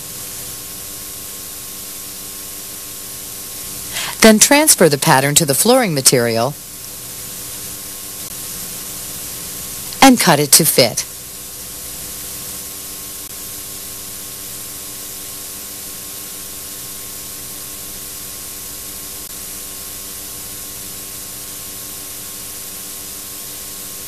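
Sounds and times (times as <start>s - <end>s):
faint steady hum: 0.0s - 24.0s
tape hiss: 0.0s - 24.0s.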